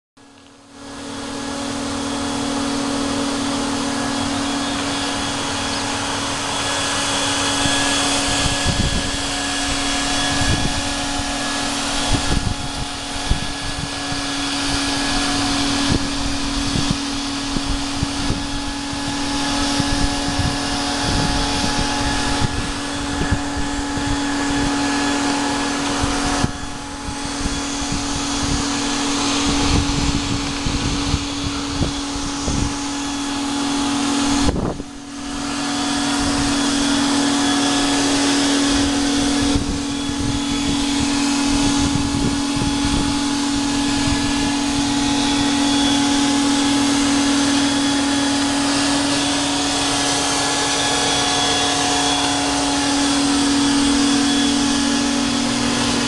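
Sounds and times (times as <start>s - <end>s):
steady machine hum: 0.2s - 56.0s
hiss: 0.9s - 56.0s.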